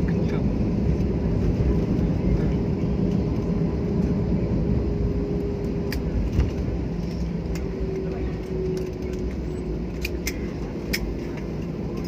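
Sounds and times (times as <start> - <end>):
airliner cabin rumble: 0.0 - 12.0
engine hum: 0.0 - 12.0.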